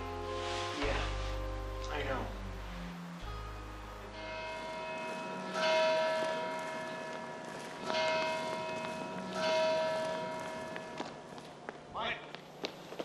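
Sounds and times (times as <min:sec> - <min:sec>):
tower bell tolling: 0:00.0 - 0:11.4.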